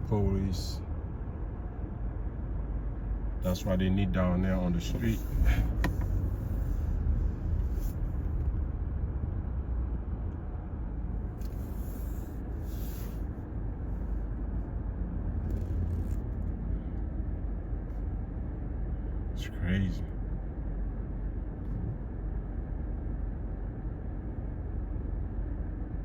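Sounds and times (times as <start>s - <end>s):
car road noise rumble: 0.0s - 26.0s.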